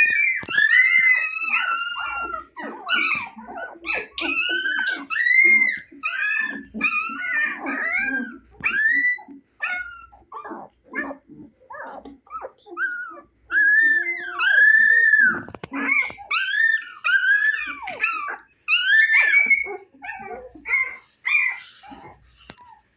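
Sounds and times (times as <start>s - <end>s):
puppy howl-like cry: 0.0s - 22.2s
puppies whining and yelping: 0.0s - 22.9s.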